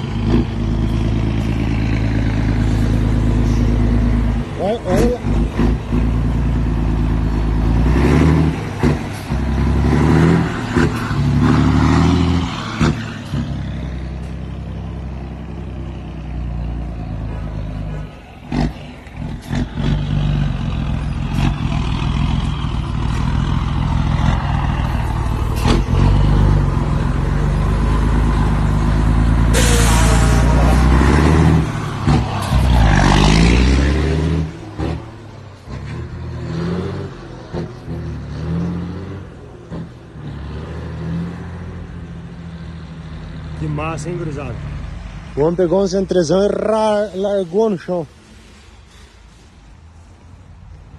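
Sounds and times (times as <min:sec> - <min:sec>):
diesel truck engine revving: 0:00.0 - 0:47.6.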